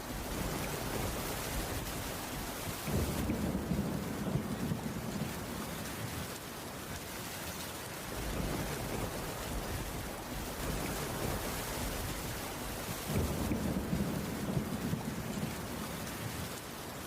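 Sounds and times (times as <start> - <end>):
low rumble of thunder: 0.0 - 6.7, 8.0 - 17.0
heavy rain: 0.0 - 17.0.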